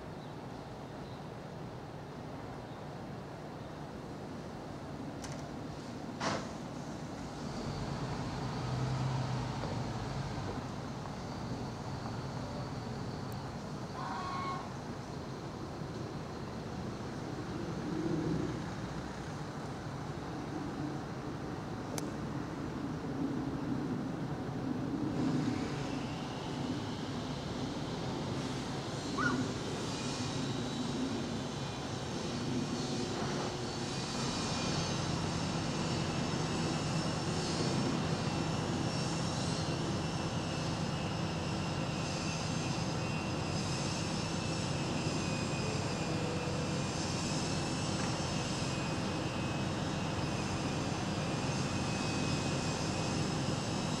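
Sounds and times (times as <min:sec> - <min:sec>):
distant jet engine rumble: 0:03.9 - 0:54.0.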